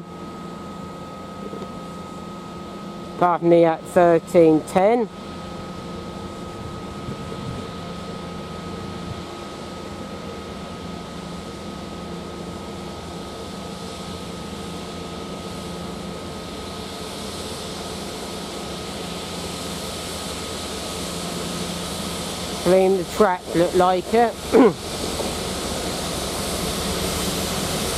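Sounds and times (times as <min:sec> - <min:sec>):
locomotive diesel engine drone: 0:00.0 - 0:27.9.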